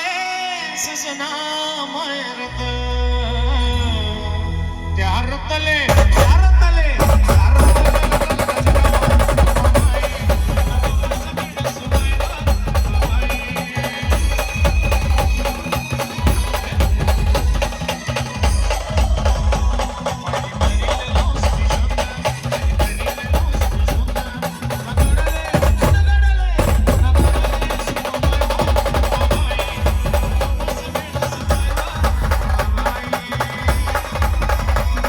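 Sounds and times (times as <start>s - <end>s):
fast drum rhythm: 5.9s - 35.0s.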